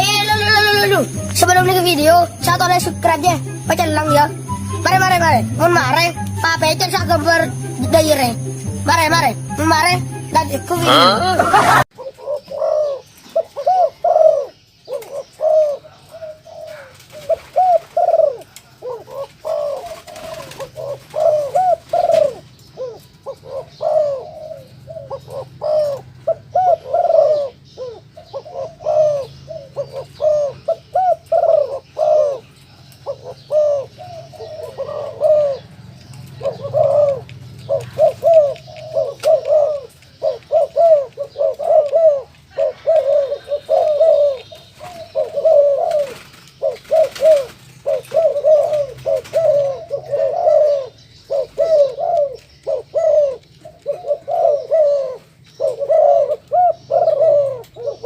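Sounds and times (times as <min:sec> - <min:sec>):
doves cooing: 0:00.0 - 0:58.0.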